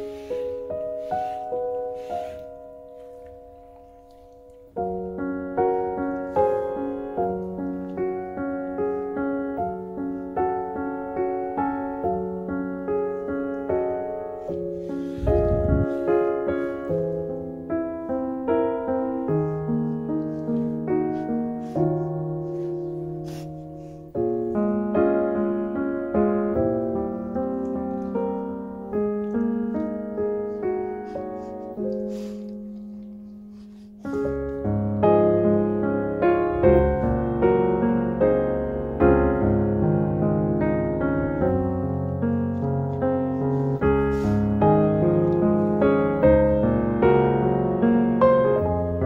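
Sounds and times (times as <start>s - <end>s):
gentle piano melody: 0.0s - 49.0s.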